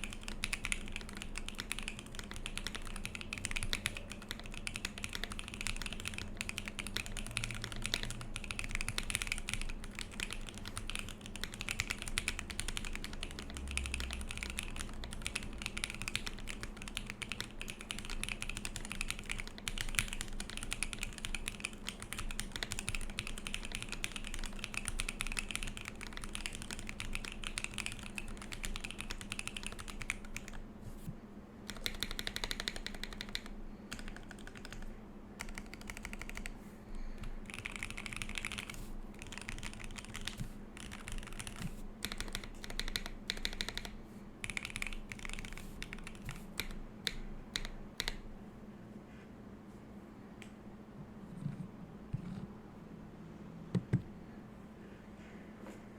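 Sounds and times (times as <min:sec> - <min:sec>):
fast typing on mechanical keyboard: 0:00.0 - 0:30.7, 0:31.6 - 0:36.6, 0:37.2 - 0:48.2.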